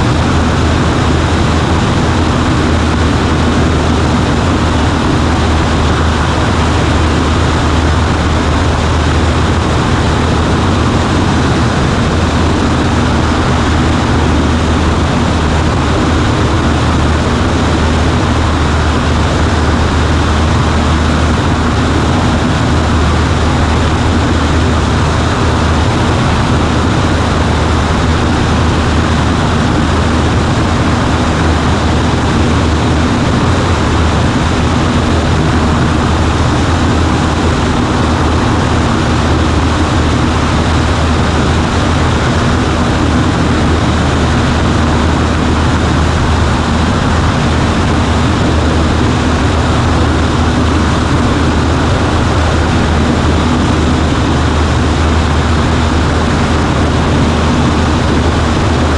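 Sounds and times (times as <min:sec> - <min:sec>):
propeller plane engine droning: 0:00.0 - 0:58.9.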